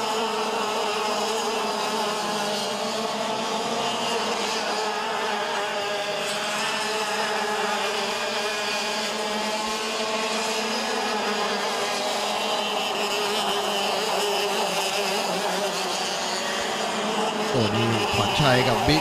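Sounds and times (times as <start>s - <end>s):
kart engines whining: 0.0s - 19.0s.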